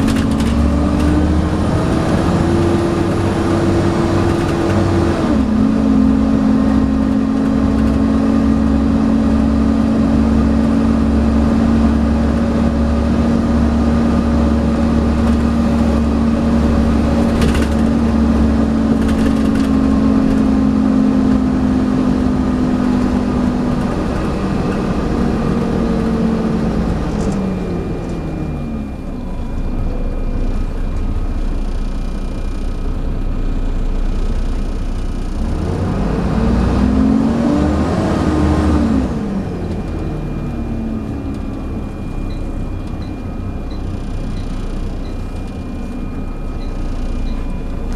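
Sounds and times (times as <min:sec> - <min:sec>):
bus diesel engine: 0:00.0 - 0:47.9
road rumble: 0:00.0 - 0:47.9.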